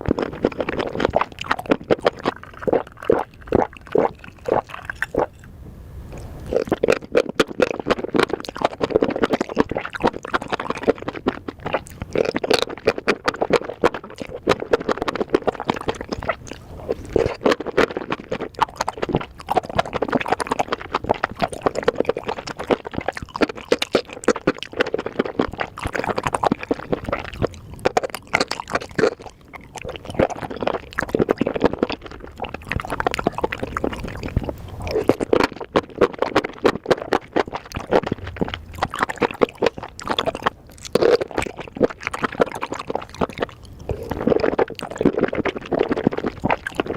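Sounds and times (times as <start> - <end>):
wet chewing and mouth smacks: 0.0 - 46.9.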